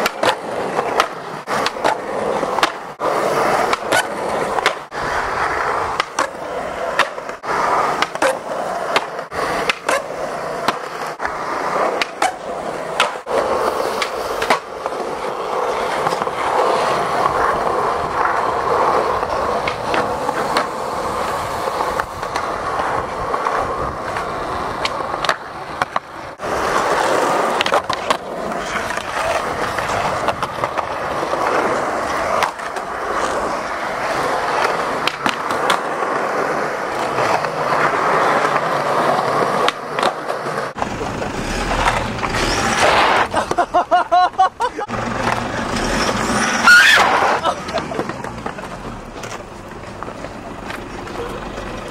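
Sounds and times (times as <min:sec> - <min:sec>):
skateboard deck clacks: 0:00.0 - 0:51.9
skateboard wheels rolling on concrete: 0:00.0 - 0:51.9.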